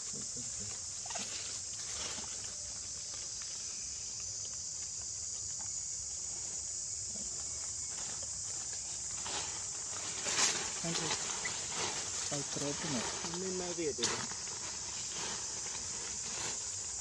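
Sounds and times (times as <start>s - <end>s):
faint ticks and rustles: 0.0s - 17.0s
insects buzzing: 0.0s - 17.0s.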